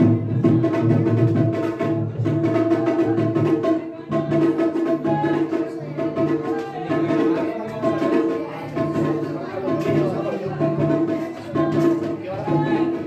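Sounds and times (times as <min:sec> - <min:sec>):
drum beat: 0:00.0 - 0:13.0.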